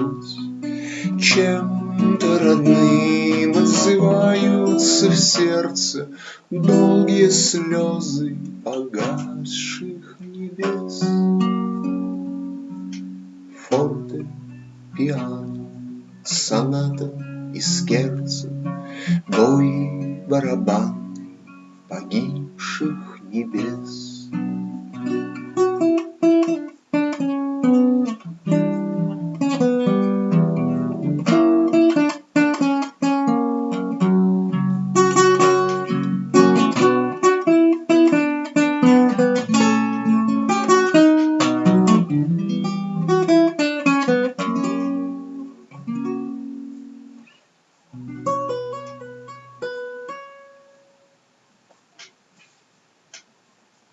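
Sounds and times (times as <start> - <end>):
acoustic guitar strumming: 0.0 - 51.2.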